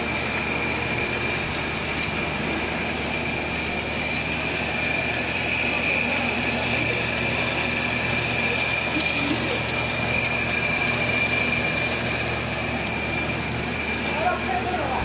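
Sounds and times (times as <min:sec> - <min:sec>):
machinery whining: 0:00.0 - 0:15.0.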